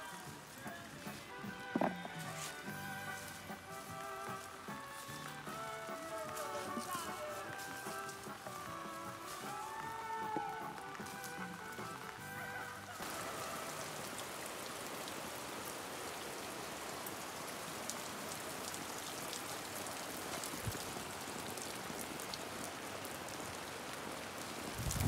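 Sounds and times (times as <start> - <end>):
rain on plastic sheeting: 0.0 - 25.0.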